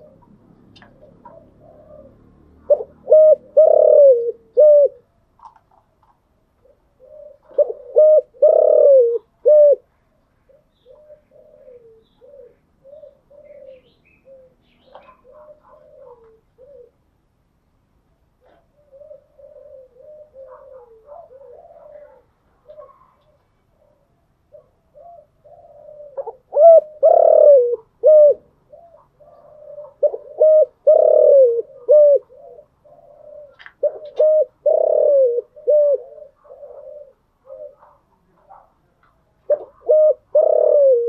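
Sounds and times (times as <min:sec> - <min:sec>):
dove cooing loudly: 0:00.0 - 0:05.1, 0:06.6 - 0:09.9, 0:10.5 - 0:17.0, 0:18.4 - 0:38.7, 0:39.5 - 0:41.0
faint doves cooing: 0:00.0 - 0:17.3, 0:18.0 - 0:41.0.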